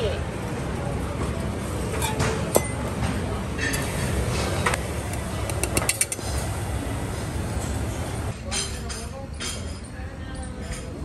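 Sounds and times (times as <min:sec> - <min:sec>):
busy kitchen rumble: 0:00.0 - 0:11.0.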